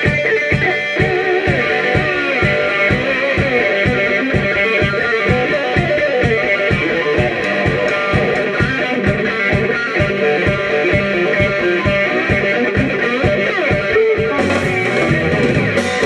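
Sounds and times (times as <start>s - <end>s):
bass guitar: 0.0s - 16.0s
drums: 0.0s - 16.0s
electric guitars: 0.0s - 16.0s.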